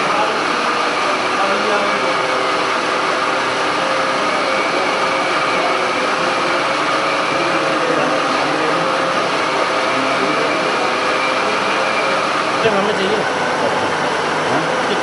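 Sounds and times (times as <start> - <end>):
steady machine noise: 0.0 - 15.0.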